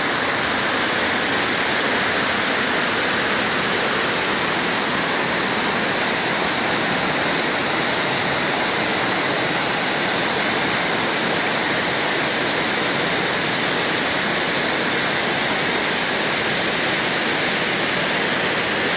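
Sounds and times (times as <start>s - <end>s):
waterfall rushing and splashing: 0.0s - 18.9s.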